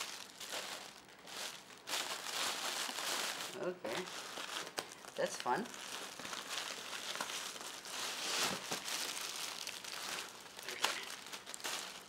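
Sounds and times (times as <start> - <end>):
plastic packing bags crinkling: 0.0 - 12.0.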